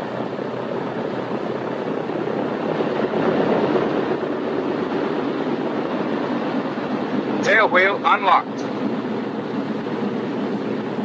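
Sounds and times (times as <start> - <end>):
aircraft radial engines droning: 0.0 - 11.0.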